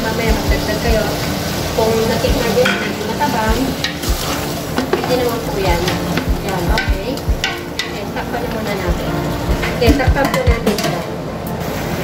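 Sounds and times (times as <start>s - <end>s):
food sizzling in a frying pan: 0.0s - 10.8s.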